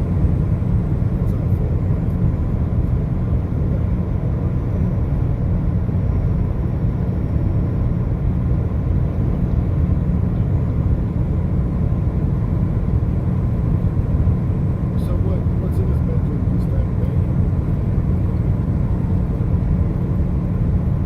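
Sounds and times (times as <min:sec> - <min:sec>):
car engine rumble: 0:00.0 - 0:21.0.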